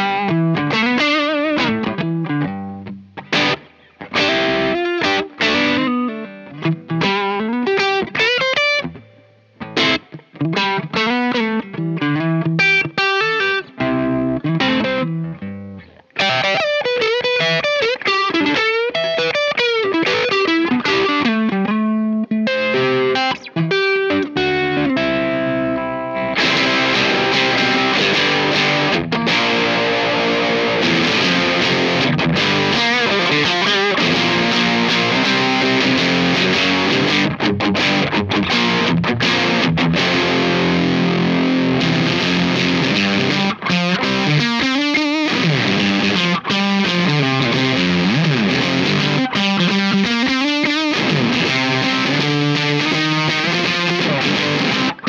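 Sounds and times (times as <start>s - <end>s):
fuzz electric guitar: 0.0s - 55.0s.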